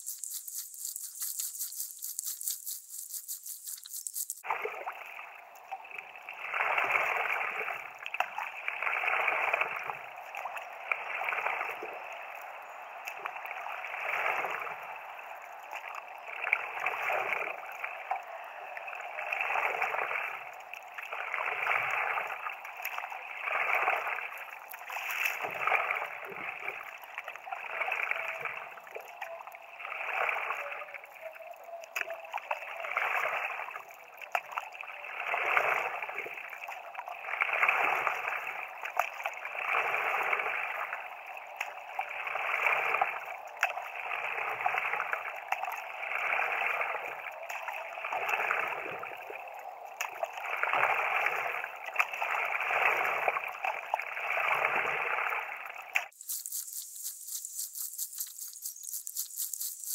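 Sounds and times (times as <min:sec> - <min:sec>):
paddle strokes swishing water: 0:00.0 - 0:59.9.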